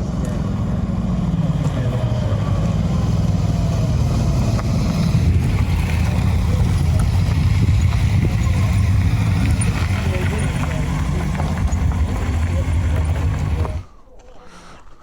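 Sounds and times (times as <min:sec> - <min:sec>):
motorcycle engine running: 0:00.0 - 0:13.9
wind and road noise: 0:00.0 - 0:13.9.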